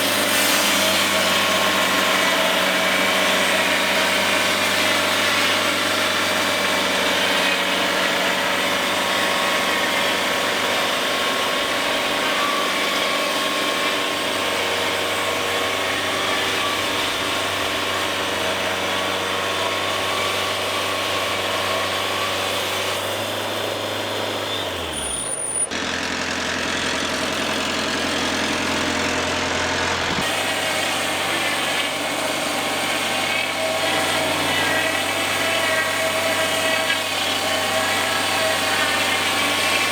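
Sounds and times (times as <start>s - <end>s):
band sawmill engine drone: 0.0s - 39.9s.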